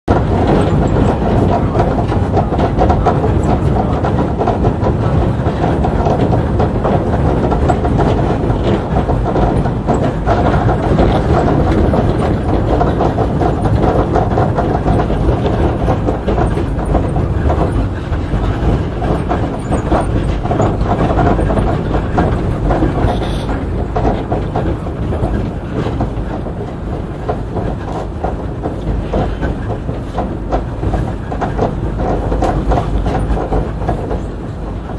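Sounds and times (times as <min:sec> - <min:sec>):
monorail tyres rumbling: 0:00.1 - 0:34.9.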